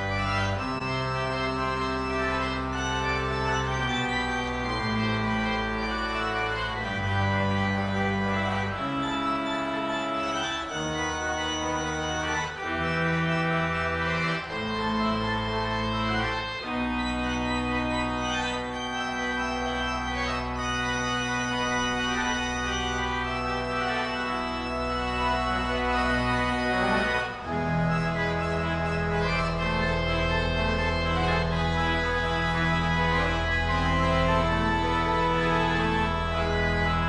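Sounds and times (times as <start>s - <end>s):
church organ playing chords: 0.0s - 37.0s
deep organ bass line: 0.0s - 37.0s.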